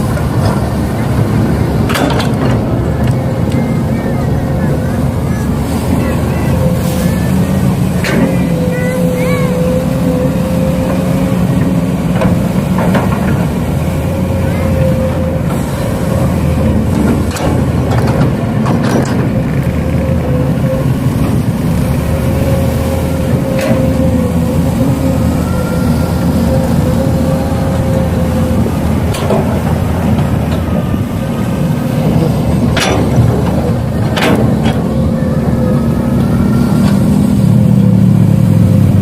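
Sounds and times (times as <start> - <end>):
model motors humming and whining: 0.0 - 39.0.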